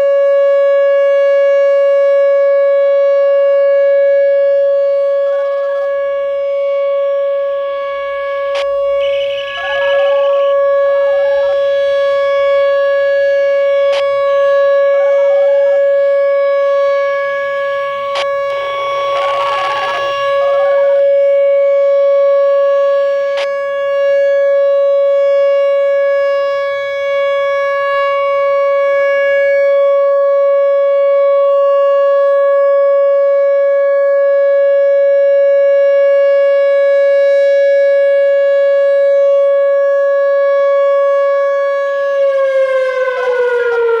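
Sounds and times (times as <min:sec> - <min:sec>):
rotating warning siren: 0:00.0 - 0:44.0.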